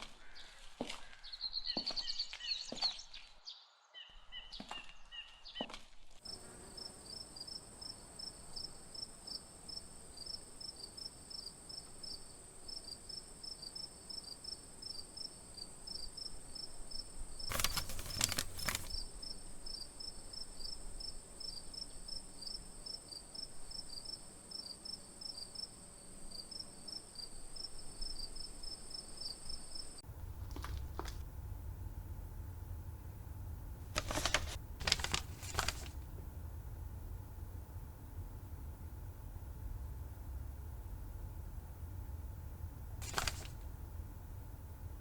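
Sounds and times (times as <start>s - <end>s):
crickets chirping: 6.3s - 45.0s.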